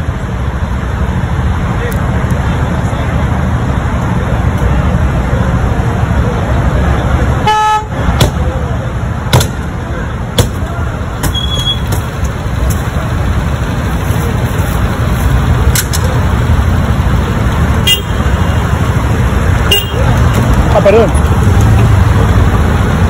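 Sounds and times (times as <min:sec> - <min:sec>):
idling car engines rumble: 0:00.0 - 0:23.0.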